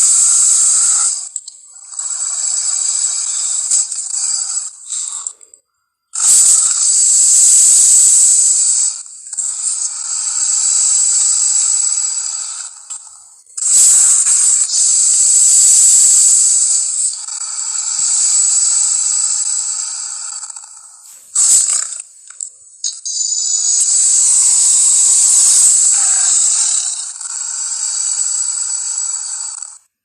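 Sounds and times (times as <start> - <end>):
monster hissing screeches: 0.0 - 5.4, 6.2 - 29.8.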